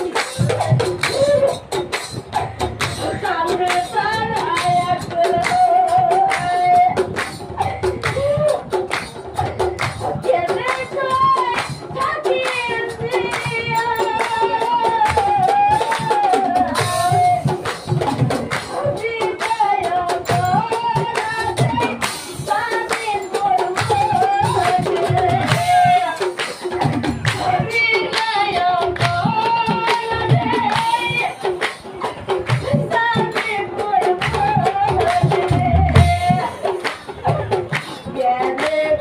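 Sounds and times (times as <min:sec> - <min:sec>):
drums beating: 0:00.0 - 0:39.0
rhythmic clapping or jingles: 0:00.0 - 0:39.0
woman singing devotional song: 0:02.8 - 0:09.0, 0:09.7 - 0:39.0.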